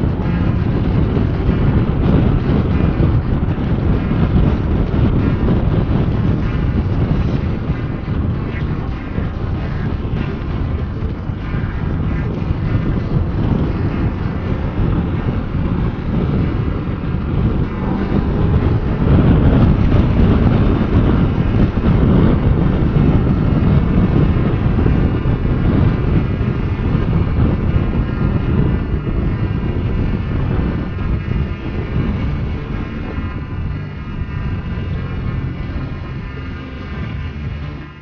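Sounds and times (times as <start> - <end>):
motorcycle engine rumbling: 0.0 - 38.0
wind noise on microphone: 0.0 - 38.0.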